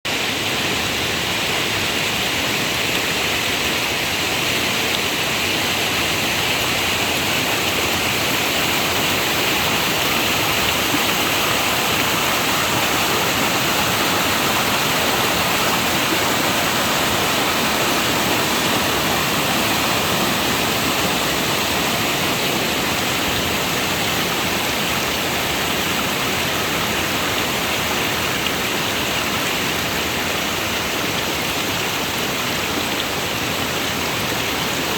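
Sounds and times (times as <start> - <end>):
rain falling in forest: 0.1 - 34.9.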